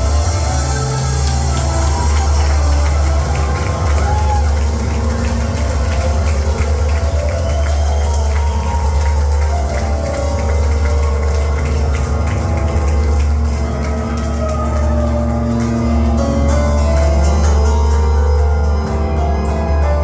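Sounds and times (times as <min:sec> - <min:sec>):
heavy booming bass: 0:00.0 - 0:19.6.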